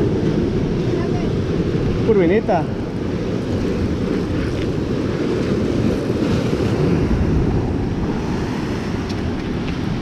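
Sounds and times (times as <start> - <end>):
surf breaking on rocks: 0.0 - 10.0
wind buffeting microphone: 0.0 - 10.0.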